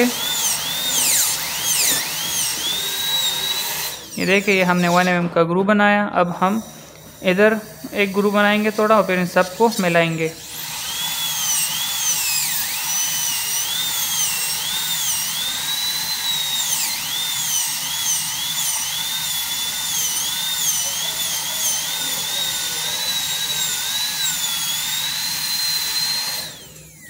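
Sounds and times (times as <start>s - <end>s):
dental drill whining: 0.0s - 5.4s, 6.2s - 27.0s.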